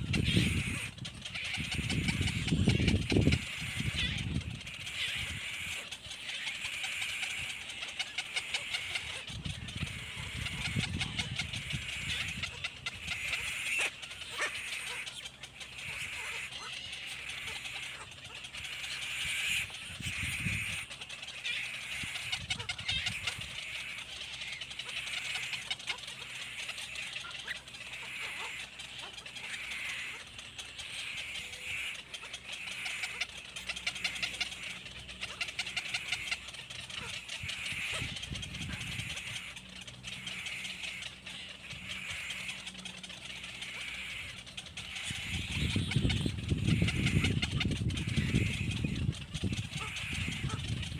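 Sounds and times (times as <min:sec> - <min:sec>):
baby birds cheeping: 0:00.0 - 0:50.9.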